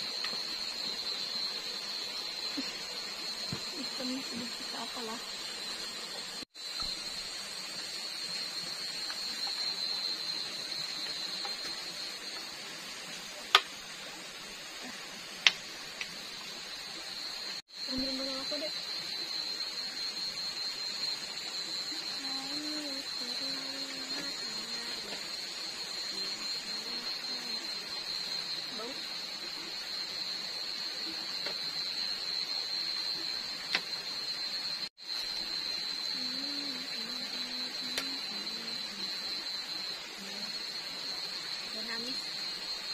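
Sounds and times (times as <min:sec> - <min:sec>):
night insects chorus: 0:00.0 - 0:42.9.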